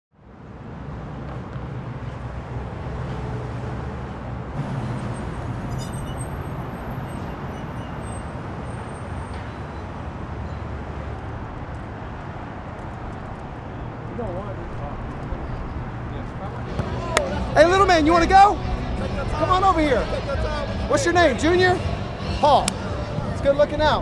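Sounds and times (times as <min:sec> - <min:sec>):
traffic rumble: 0:00.1 - 0:24.0.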